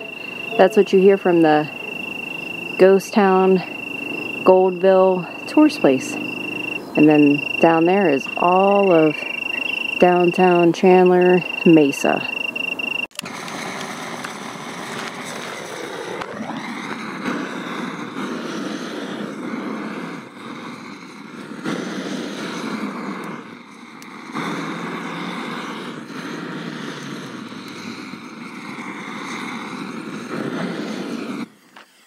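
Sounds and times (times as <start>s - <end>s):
gas torch hissing: 0.0s - 32.0s.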